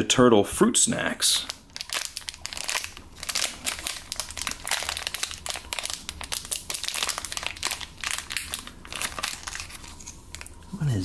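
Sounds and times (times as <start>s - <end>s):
plastic pouch crinkling: 1.4s - 10.7s.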